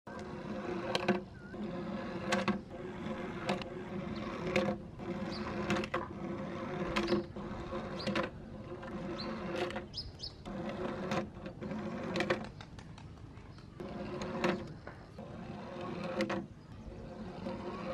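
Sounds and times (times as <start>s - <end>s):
toy truck wheels whirring: 0.1s - 12.6s, 13.6s - 17.9s.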